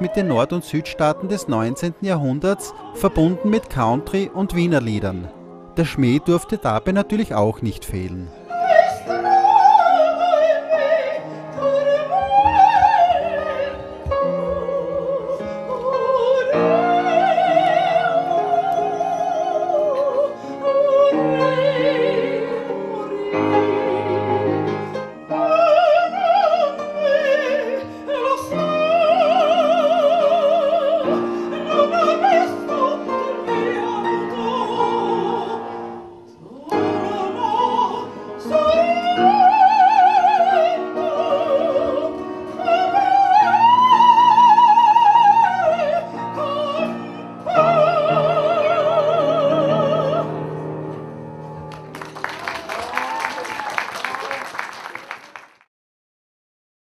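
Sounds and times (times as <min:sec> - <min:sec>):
woman singing operatically: 0:00.0 - 0:24.6, 0:25.3 - 0:35.8, 0:36.4 - 0:50.4
upright piano: 0:00.0 - 0:54.3.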